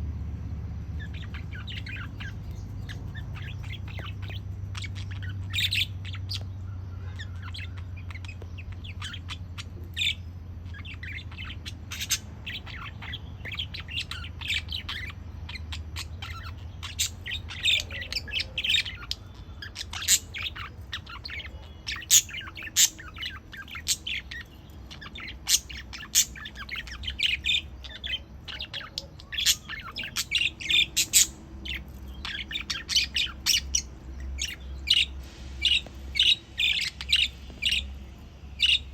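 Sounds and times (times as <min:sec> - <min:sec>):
steady low hum: 0:00.0 - 0:38.9
budgerigars chattering: 0:00.9 - 0:38.9.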